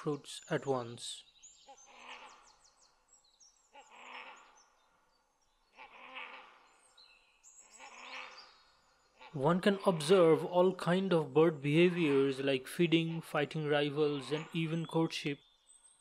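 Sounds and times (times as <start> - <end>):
hoarse barking bird calls: 0.0 - 3.0, 3.6 - 7.0, 7.6 - 15.4.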